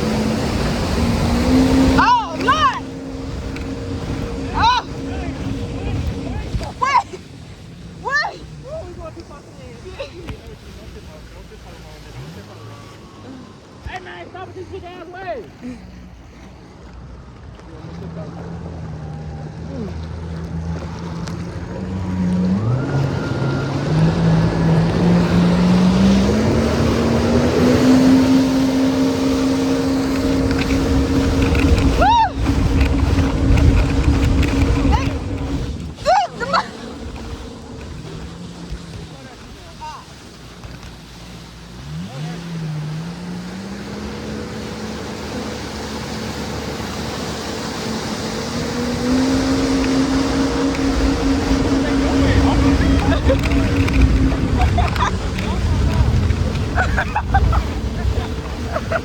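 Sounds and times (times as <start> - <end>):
jet ski engine revving: 0.0 - 59.0
water rushing and spraying: 0.0 - 59.0.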